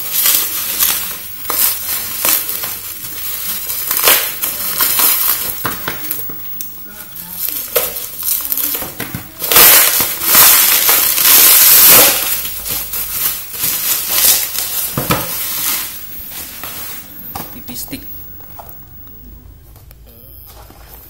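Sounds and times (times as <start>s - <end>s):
packaging crackling and rustling: 0.0s - 18.8s.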